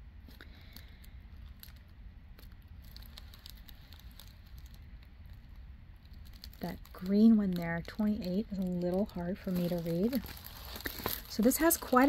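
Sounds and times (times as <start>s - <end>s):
low steady hum: 0.0s - 12.0s
canvas rustling and ticking: 0.2s - 12.0s.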